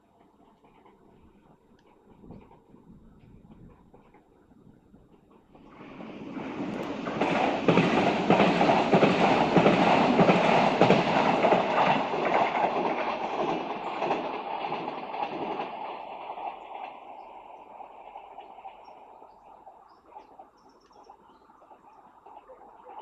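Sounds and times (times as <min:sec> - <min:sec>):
train passing: 0:00.0 - 0:23.0
wheels clattering on track: 0:00.0 - 0:23.0.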